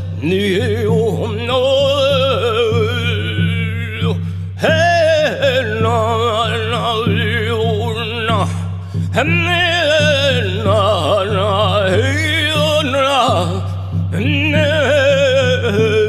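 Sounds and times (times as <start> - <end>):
man singing with vibrato: 0.0 - 16.0.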